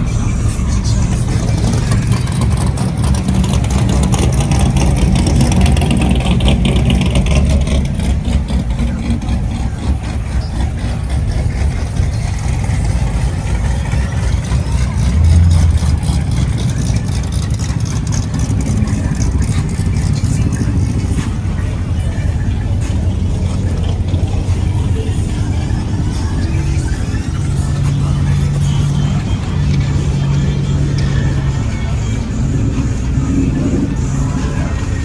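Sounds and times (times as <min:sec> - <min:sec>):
car engines idling: 0:00.0 - 0:35.0
crowd chatter: 0:00.0 - 0:35.0.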